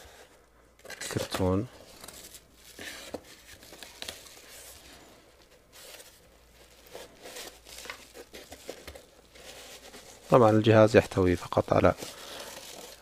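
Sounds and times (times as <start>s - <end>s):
cardboard rustling: 0.0s - 13.0s
bubble wrap crinkling: 1.0s - 13.0s.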